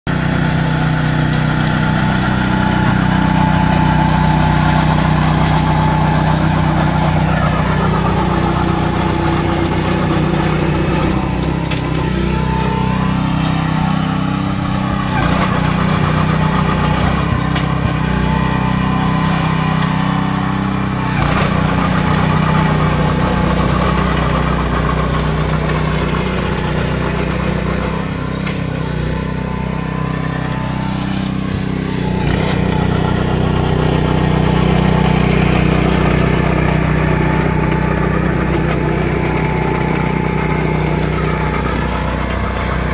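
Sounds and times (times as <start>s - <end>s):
small petrol engine running: 0.1s - 42.9s.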